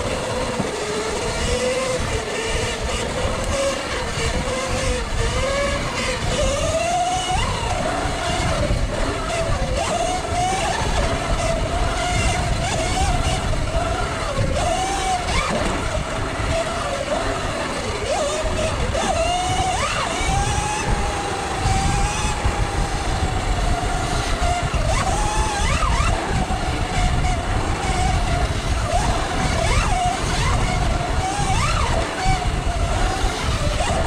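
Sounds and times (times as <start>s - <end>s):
electric motor whine: 0.0s - 34.0s
wind and tyre rumble: 0.0s - 34.0s.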